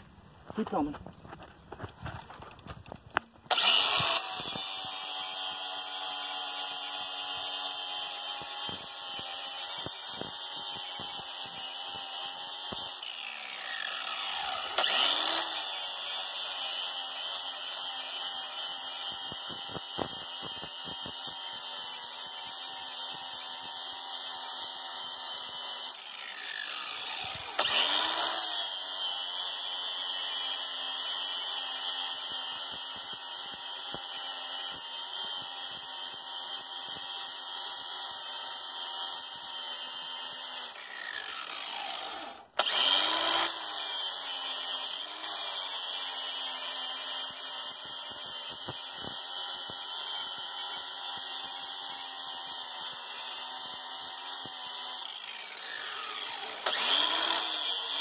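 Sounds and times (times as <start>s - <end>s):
angle grinder grinding pipe: 3.1s - 58.0s.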